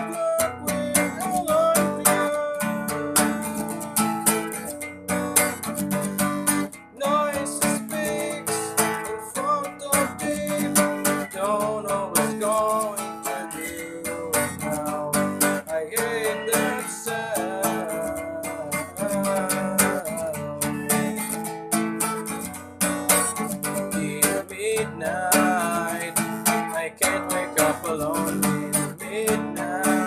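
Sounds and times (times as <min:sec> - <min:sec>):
acoustic guitar strumming: 0:00.0 - 0:30.0
person singing: 0:00.0 - 0:30.0.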